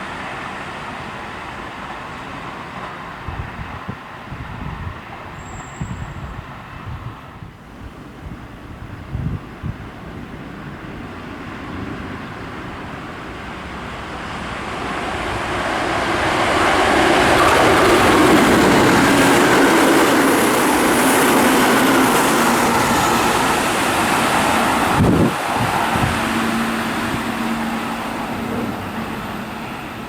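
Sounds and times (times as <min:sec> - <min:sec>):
electric train passing: 0:00.0 - 0:30.0
faint train hum: 0:00.0 - 0:30.0.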